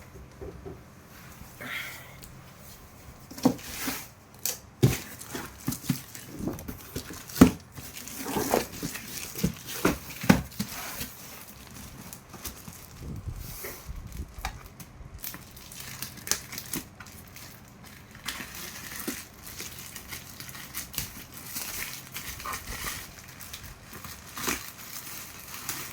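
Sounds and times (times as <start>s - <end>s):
wrapping crinkling and tearing: 3.4s - 25.9s.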